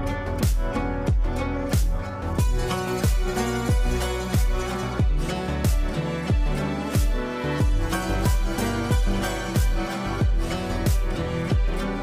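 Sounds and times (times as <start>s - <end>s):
deep bass drum beat: 0.0s - 12.0s.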